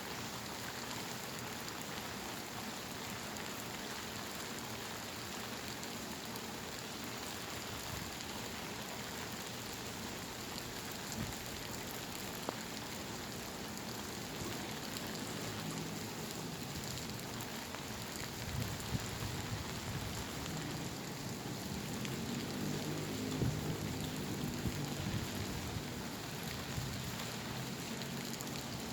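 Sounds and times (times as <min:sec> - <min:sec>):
heavy rain on surfaces: 0:00.0 - 0:28.9.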